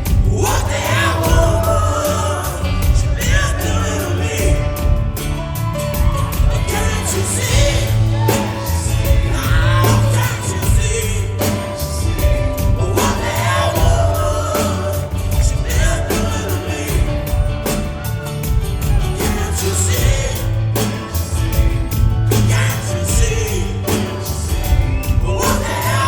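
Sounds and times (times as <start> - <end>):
person singing: 0.0 - 21.6, 22.3 - 26.0
rock band playing: 0.0 - 26.0.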